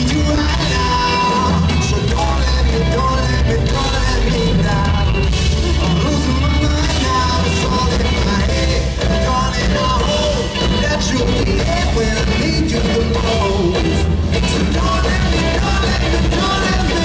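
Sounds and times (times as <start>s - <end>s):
drums: 0.0s - 17.0s
electric guitar: 0.0s - 17.0s
keyboards: 0.0s - 17.0s
man singing: 0.0s - 17.0s.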